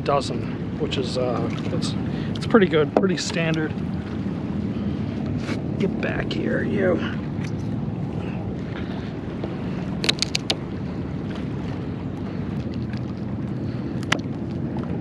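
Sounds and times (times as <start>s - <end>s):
water: 0.0s - 15.0s
wind on microphone: 0.0s - 15.0s.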